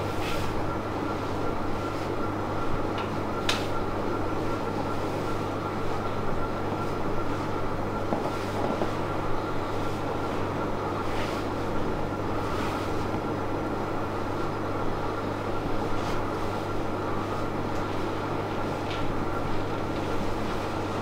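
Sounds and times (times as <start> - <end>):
machine hum with high tone: 0.0 - 21.0.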